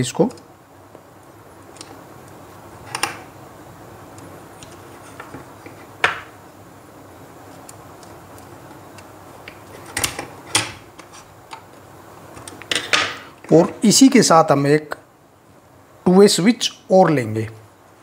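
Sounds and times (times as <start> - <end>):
faint hiss: 0.0 - 18.0.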